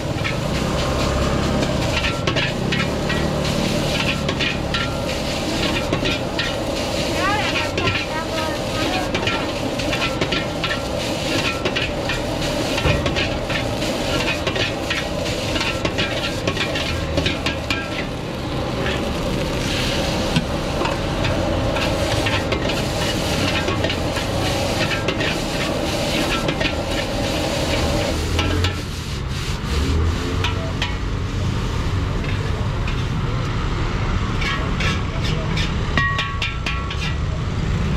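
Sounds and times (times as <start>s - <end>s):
metal ladle scraping a wok: 0.0s - 31.1s, 32.2s - 33.2s, 34.3s - 37.8s
gas burner hum: 0.0s - 37.1s
rice sizzling in a wok: 0.0s - 37.9s.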